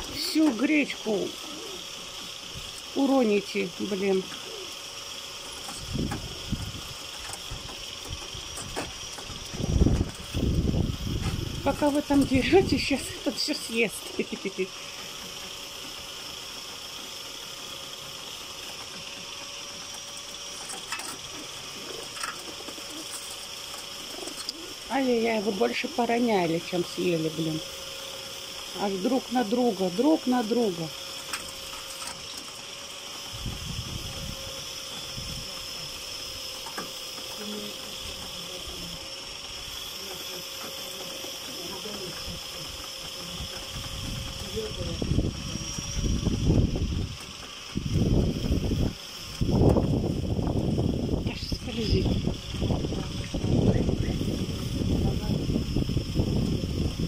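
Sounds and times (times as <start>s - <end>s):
pigeons pecking grain: 0.0s - 54.8s
outdoor hiss and hum: 0.0s - 57.0s.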